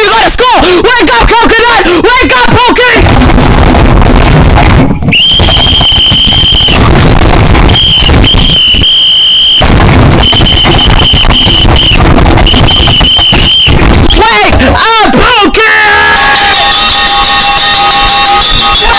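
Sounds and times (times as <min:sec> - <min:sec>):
distorted high-pitched alarm: 0:02.5 - 0:15.2, 0:15.9 - 0:18.9
dense noise: 0:03.0 - 0:18.9.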